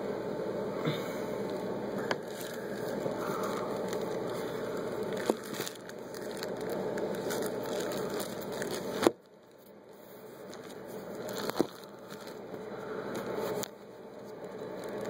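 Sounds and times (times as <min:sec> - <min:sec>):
close rustling and handling: 0:01.4 - 0:15.0.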